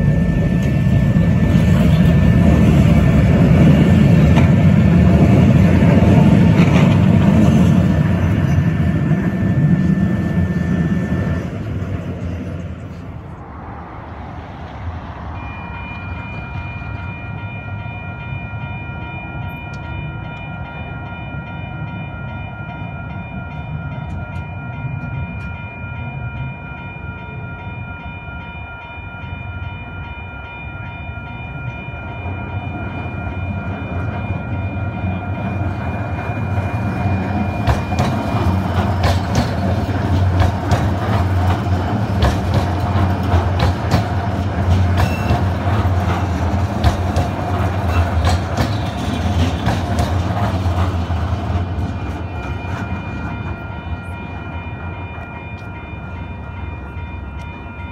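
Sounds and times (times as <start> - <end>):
level crossing warning bell: 0.0 - 13.6, 15.0 - 57.9
train wheels rumbling and clattering: 0.0 - 57.9.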